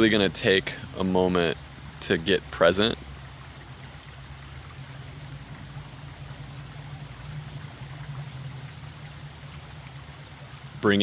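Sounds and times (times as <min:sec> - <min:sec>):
creek water flowing: 0:00.0 - 0:11.0
low rumble: 0:00.0 - 0:11.0.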